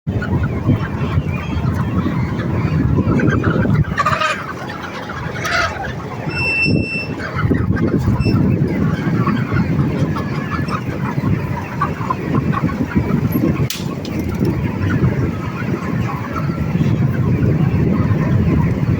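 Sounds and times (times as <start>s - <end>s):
flock of poultry calling: 0.1s - 18.9s.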